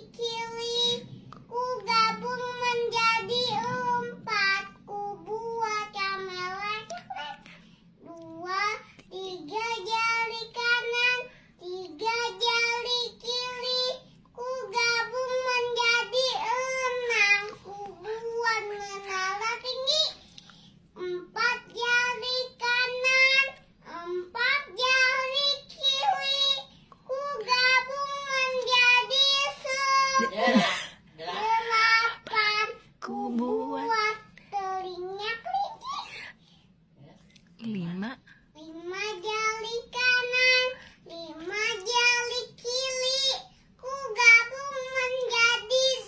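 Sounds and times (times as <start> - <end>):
girl singing unaccompanied: 0.0 - 20.2, 20.9 - 36.0, 38.5 - 46.0.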